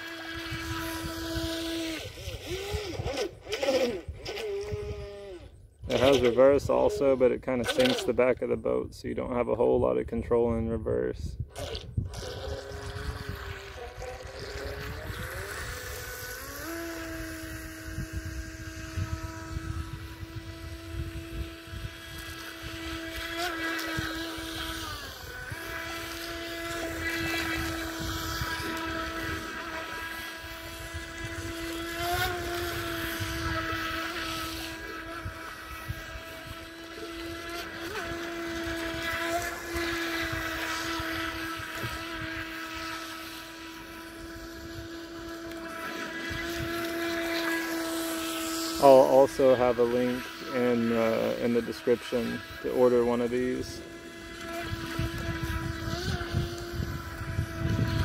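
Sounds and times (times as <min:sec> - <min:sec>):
toy boat electric motor whining: 0:00.0 - 0:08.3, 0:11.5 - 0:58.0.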